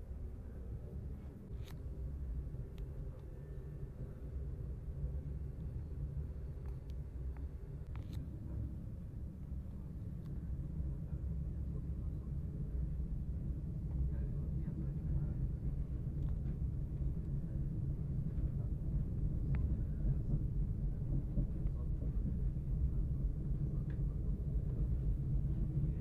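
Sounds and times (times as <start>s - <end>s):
electric train rumbling on track: 0.0s - 26.0s.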